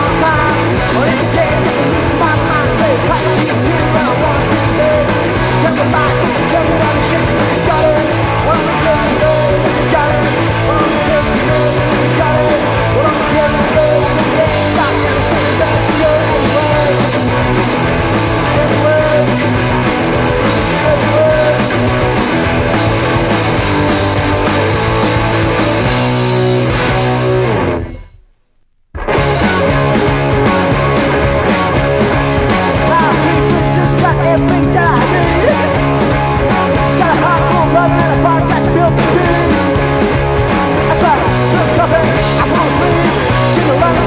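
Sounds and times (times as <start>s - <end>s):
electric guitar: 0.0s - 28.4s, 29.0s - 44.0s
bass guitar: 0.0s - 44.0s
punk rock band playing: 0.0s - 44.0s.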